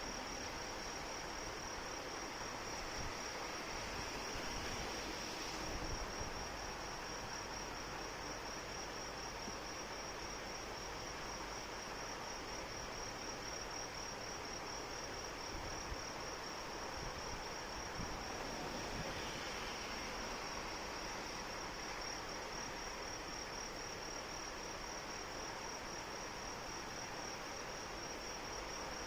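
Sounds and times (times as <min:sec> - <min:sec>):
insects chirping trill: 0:00.0 - 0:29.0
steady rain: 0:00.0 - 0:29.0.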